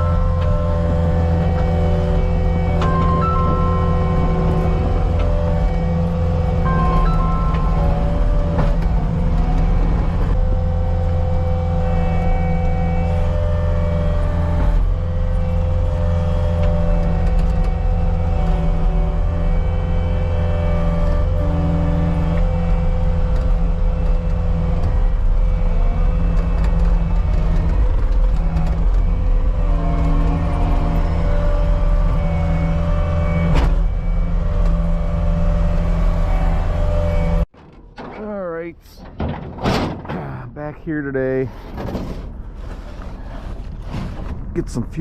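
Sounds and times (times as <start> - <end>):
track loader diesel drone: 0.0 - 45.0.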